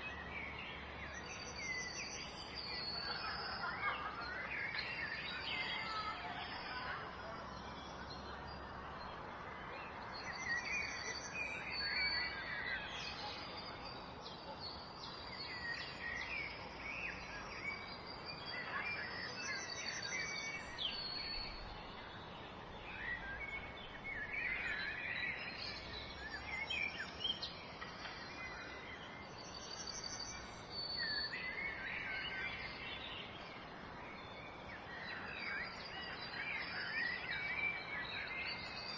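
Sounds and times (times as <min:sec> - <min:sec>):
small birds chirping: 0:00.0 - 0:38.9
steady background hiss: 0:00.0 - 0:38.9.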